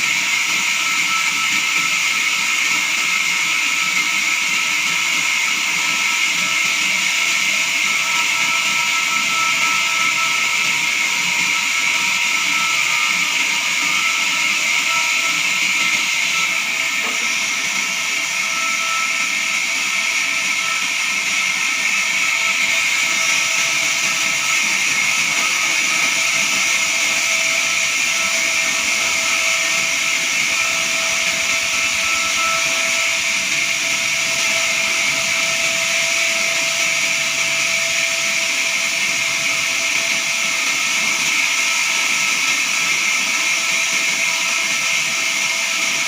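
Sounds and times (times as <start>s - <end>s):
band saw cutting log: 0.0s - 46.0s.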